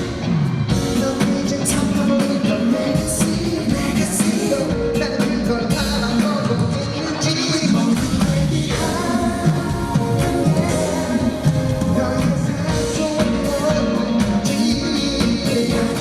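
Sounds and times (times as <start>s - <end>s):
band with drums: 0.0s - 16.0s
man singing live: 0.0s - 16.0s.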